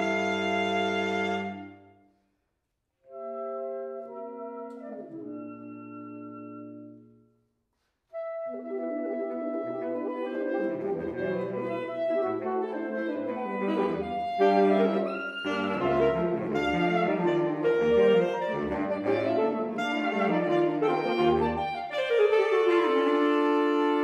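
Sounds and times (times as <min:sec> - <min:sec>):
saxophone quartet playing: 0:00.0 - 0:02.0, 0:03.1 - 0:07.2, 0:08.2 - 0:24.0.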